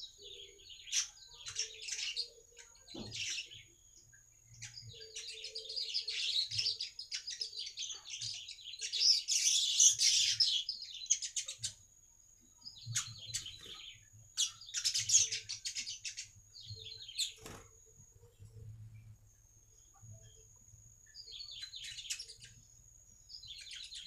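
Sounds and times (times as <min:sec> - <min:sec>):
bird buzzy chattering song: 0:00.0 - 0:11.8, 0:12.6 - 0:18.7, 0:19.8 - 0:24.0.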